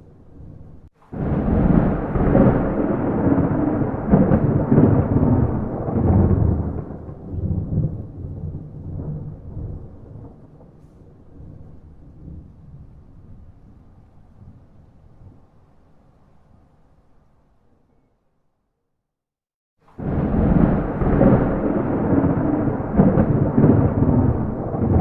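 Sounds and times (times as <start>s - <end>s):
thunder rumbling: 0.0s - 15.4s, 19.9s - 25.0s.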